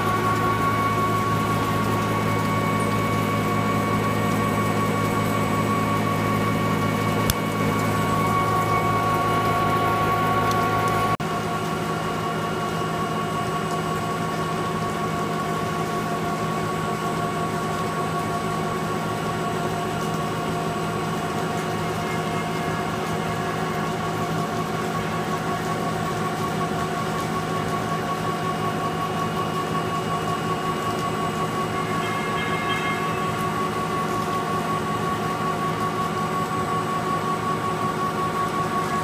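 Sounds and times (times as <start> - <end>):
boring mill whining: 0.0 - 39.0.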